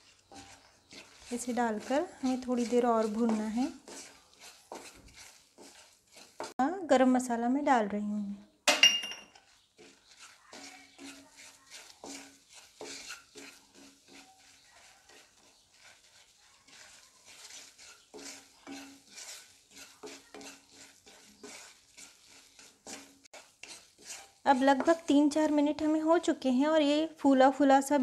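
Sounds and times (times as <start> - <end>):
wooden spatula scraping a pan: 0.0 - 7.7, 9.3 - 28.0.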